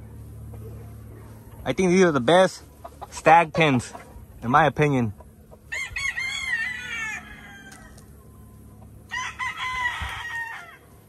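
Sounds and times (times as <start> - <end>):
roosters crowing: 0.0 - 11.0.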